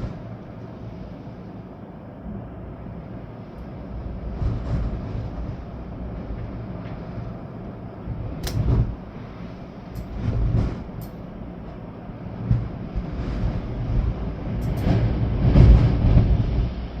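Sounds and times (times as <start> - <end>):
storm wind gusting: 0.0 - 17.0
wind buffeting microphone: 0.0 - 17.0
steady rain: 2.5 - 17.0.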